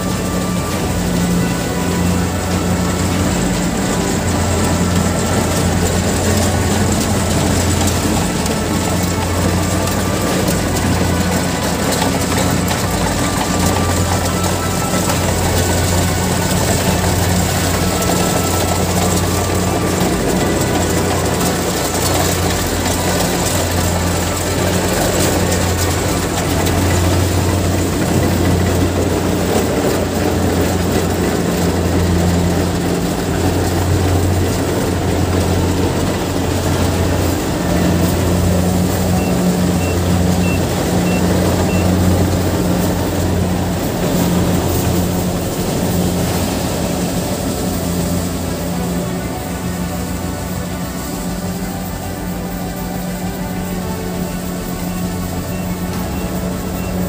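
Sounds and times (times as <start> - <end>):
cutting and threshing machinery: 0.0 - 57.0
diesel engine droning: 0.0 - 57.0.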